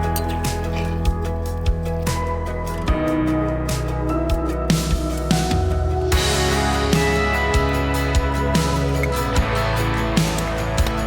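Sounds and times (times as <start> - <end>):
electronic music with guitar: 0.0 - 11.0.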